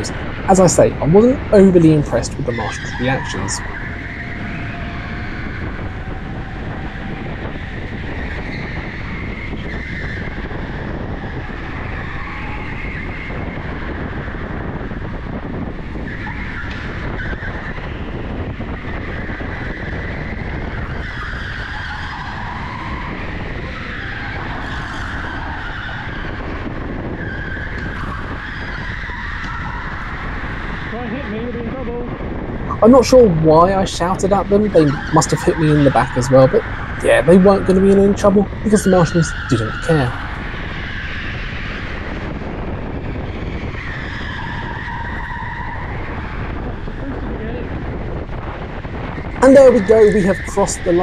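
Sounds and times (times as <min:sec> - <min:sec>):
go-kart tyres squealing: 0:00.0 - 0:51.0.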